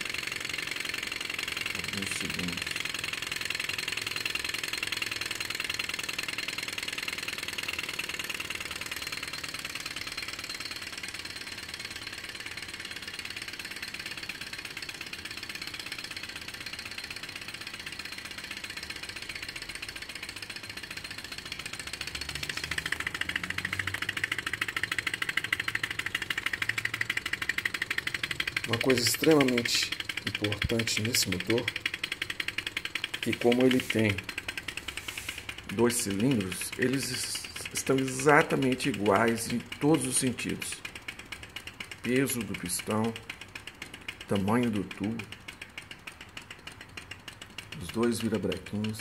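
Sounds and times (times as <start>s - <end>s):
engine mechanical clatter: 0.0s - 49.0s.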